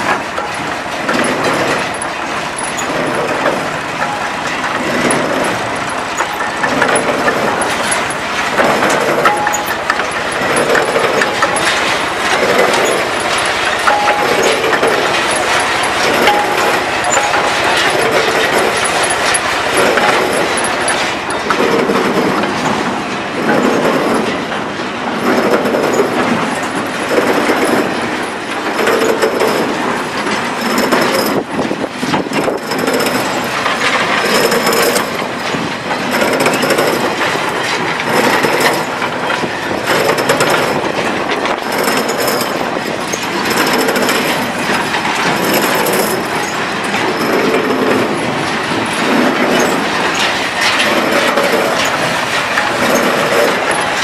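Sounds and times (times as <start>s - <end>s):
baler mechanism clattering: 0.0s - 54.0s.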